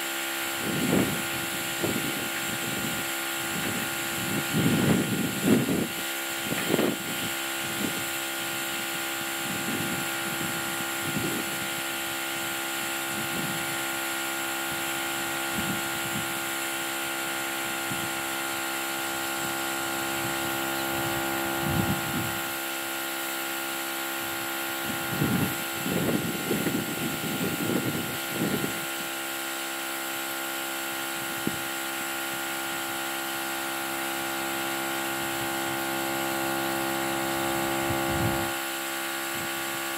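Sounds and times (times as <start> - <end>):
electric air compressor running: 0.0 - 39.9.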